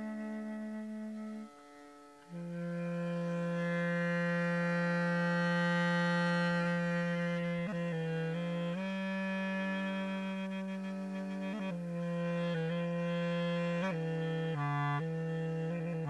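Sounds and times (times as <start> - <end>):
wind instrument sustained notes: 0.0 - 16.0.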